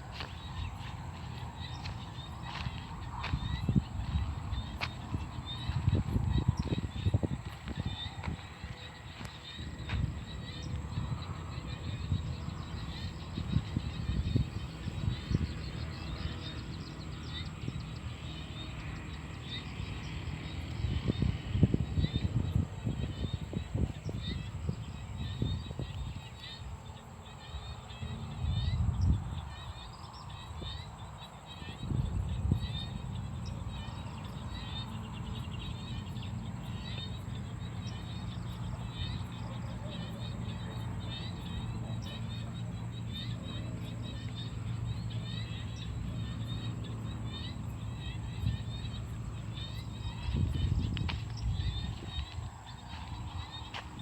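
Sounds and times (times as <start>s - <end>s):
birds calling: 0.0s - 54.0s
frogs chirping: 0.0s - 54.0s
high insect whine: 0.0s - 54.0s
wind rumble on microphone: 0.0s - 54.0s.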